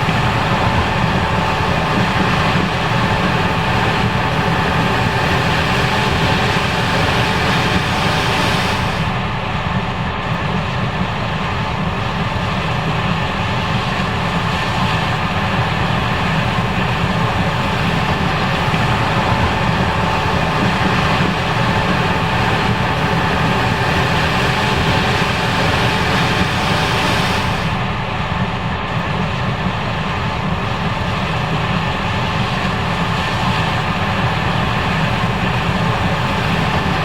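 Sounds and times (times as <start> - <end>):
combine harvester drone: 0.0 - 37.0.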